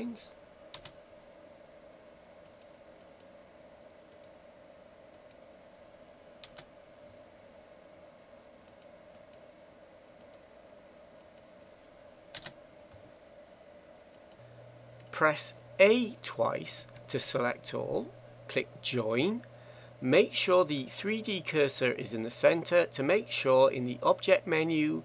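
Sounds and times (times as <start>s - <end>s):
steady faint hum: 0.0s - 25.0s.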